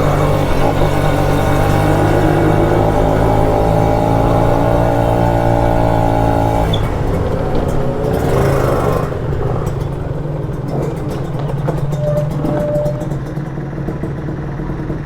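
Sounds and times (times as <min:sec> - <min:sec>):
two-stroke engine running: 0:00.0 - 0:15.0.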